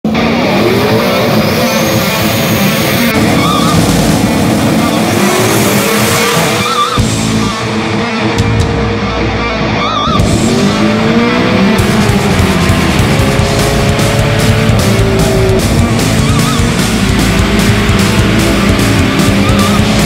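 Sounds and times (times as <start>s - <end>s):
background music: 0.1s - 20.0s
car engine revving hard: 0.1s - 20.0s.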